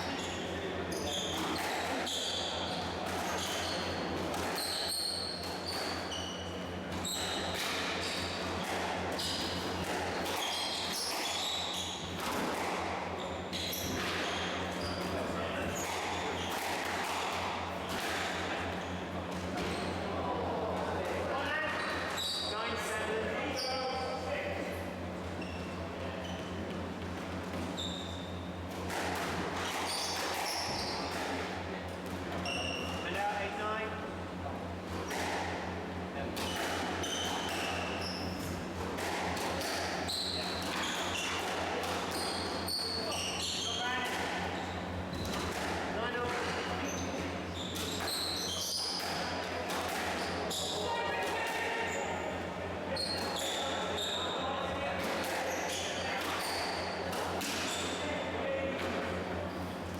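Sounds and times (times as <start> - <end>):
shoes squeaking on court floor: 0.0 - 20.1, 21.3 - 24.1, 25.0 - 31.5, 32.3 - 33.2, 36.4 - 38.7, 39.3 - 51.0, 52.9 - 58.3.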